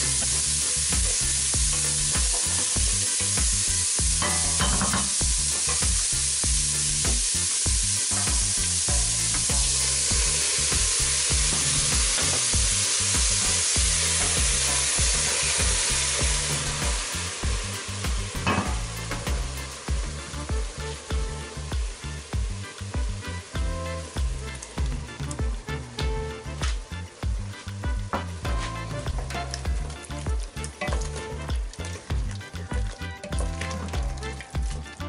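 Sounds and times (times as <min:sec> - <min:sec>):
vegetables sizzling in hot oil: 0:00.0 - 0:35.0.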